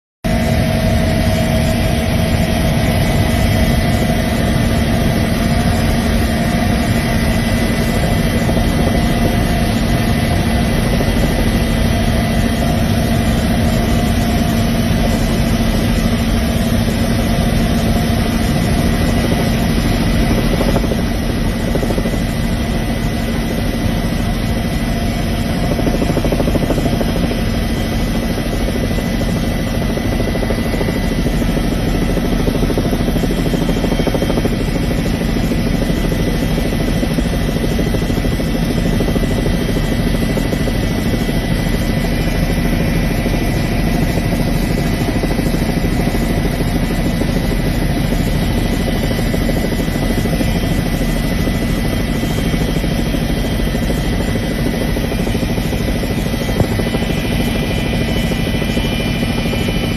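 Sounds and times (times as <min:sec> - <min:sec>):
helicopter engine and rotor drone: 0:00.2 - 0:59.9.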